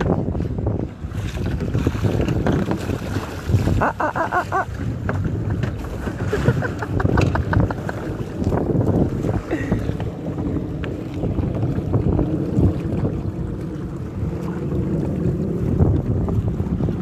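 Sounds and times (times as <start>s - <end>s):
water splashing against boat: 0.0s - 17.0s
wind buffeting microphone: 0.0s - 17.0s.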